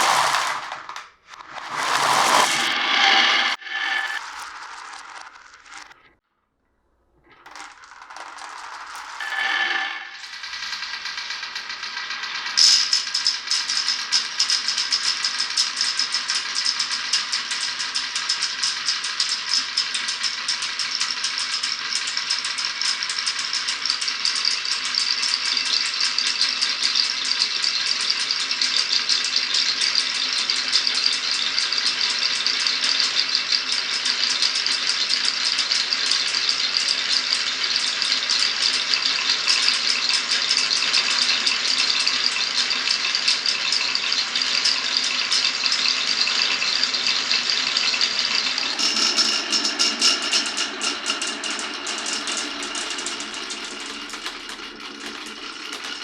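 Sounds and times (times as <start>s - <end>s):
marbles clicking on wooden track: 0.0s - 6.0s, 7.3s - 56.0s.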